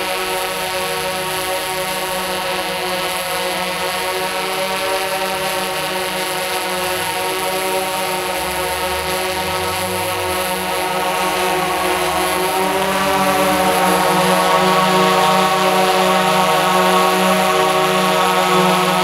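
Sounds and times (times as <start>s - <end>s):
drone motors and propellers spinning: 0.2s - 19.0s.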